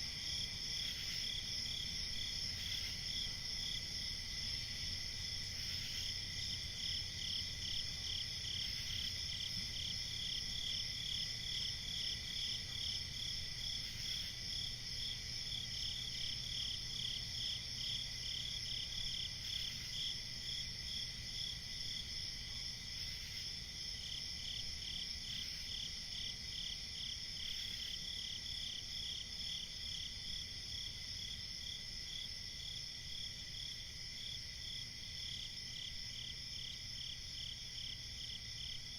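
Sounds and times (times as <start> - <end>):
crickets chirping: 0.0 - 38.9
high insect drone: 0.0 - 38.9.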